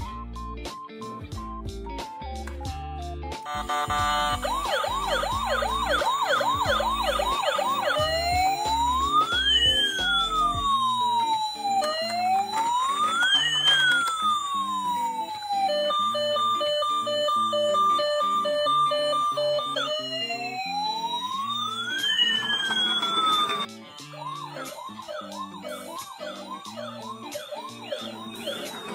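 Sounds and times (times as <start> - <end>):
toy ambulance electronic siren: 3.5 - 28.9.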